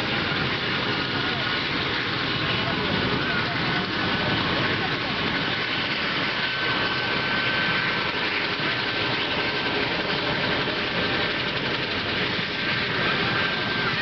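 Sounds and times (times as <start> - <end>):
helicopter engines and rotor: 0.0 - 14.0.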